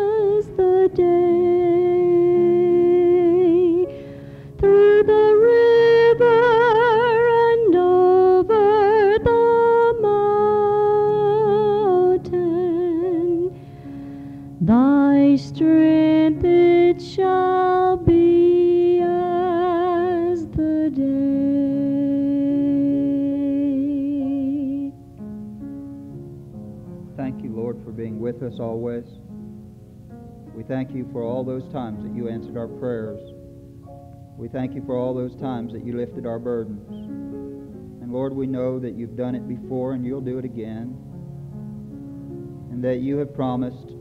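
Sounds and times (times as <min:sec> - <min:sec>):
person humming a hymn: 0:00.0 - 0:25.0, 0:27.1 - 0:29.2, 0:30.5 - 0:41.1
soft accompaniment: 0:00.0 - 0:44.0.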